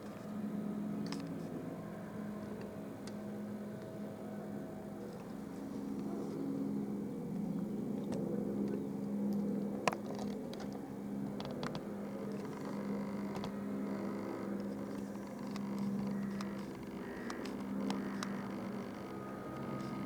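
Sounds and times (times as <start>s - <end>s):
helicopter drone: 0.0s - 20.0s.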